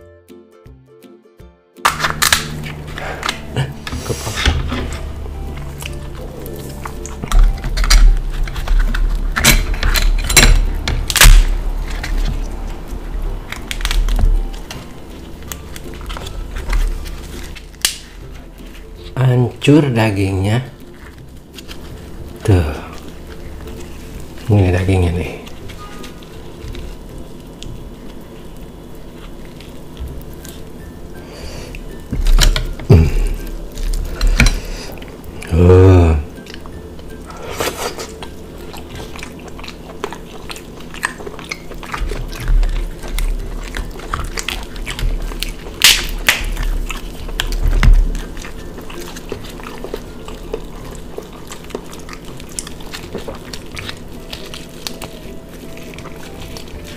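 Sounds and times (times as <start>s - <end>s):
crab shell cracking: 1.8s - 56.9s.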